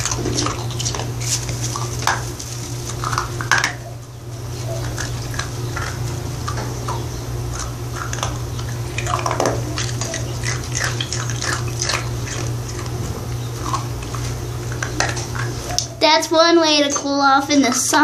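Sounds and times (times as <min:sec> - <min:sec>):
dog crunching ice cube: 0:00.0 - 0:03.8, 0:04.5 - 0:16.0
steady low hum: 0:00.0 - 0:18.0.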